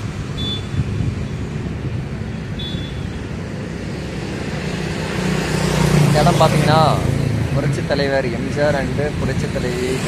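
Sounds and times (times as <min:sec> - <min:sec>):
passing vehicles rumble: 0:00.0 - 0:10.0.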